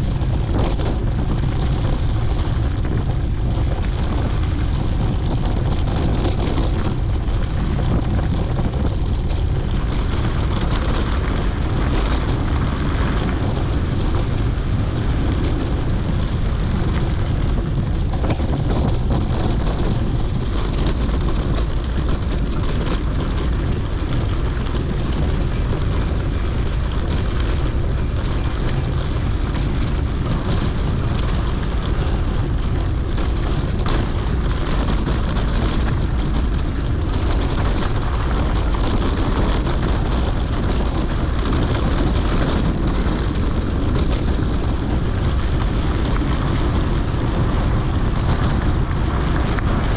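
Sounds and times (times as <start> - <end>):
bike tyres rolling on dirt: 0.0 - 49.9
wind buffeting microphone: 0.0 - 49.9.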